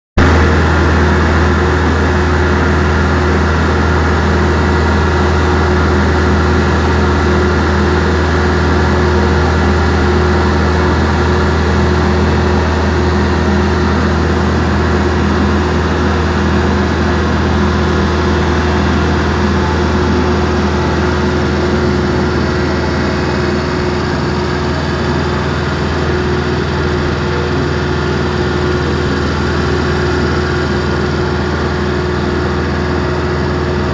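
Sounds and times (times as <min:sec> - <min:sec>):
boat engine humming: 0:00.2 - 0:33.9
water rushing along hull: 0:00.3 - 0:33.9.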